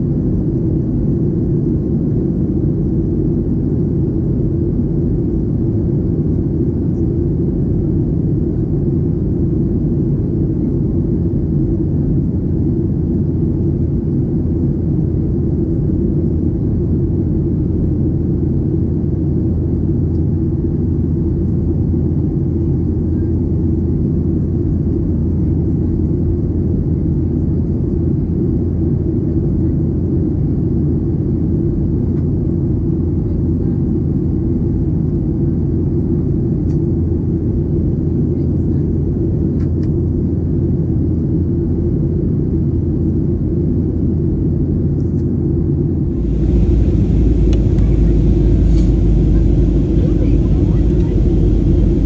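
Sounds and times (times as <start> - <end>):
airplane cabin rumble in flight: 0.0 - 52.0.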